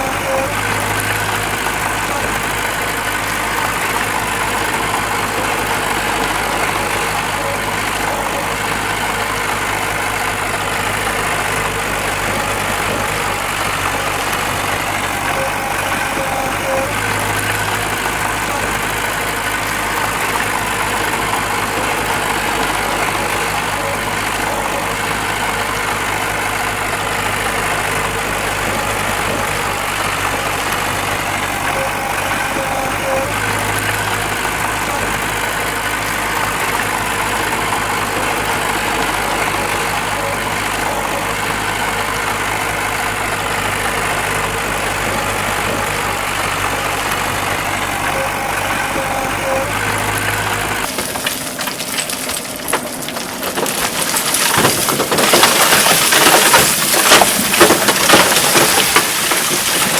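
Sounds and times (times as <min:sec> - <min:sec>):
crackling rattling noise: 0:00.0 - 0:59.9
diesel engine idling: 0:00.0 - 0:59.9.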